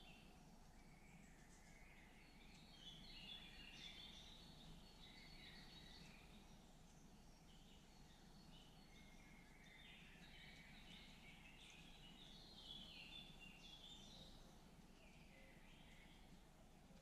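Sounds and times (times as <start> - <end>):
low steady background noise: 0.0 - 17.0
songbirds chirping: 0.0 - 17.0.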